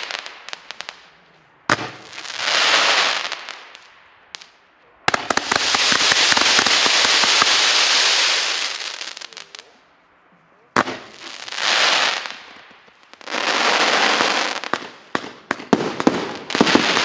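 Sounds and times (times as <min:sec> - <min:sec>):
firework crack: 0:00.0 - 0:09.8, 0:10.7 - 0:17.0
firework crackle: 0:00.0 - 0:09.8, 0:10.7 - 0:17.0.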